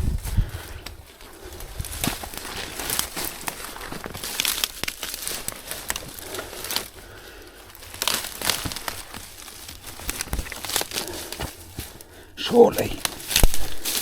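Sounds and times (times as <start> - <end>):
brush rustling and crackling: 0.0 - 14.0
twigs snapping: 0.0 - 14.0.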